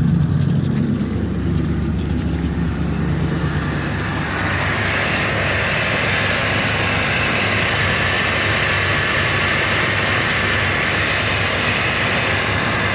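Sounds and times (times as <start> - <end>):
truck engine running: 0.0 - 12.9
loud even hiss: 2.3 - 12.9.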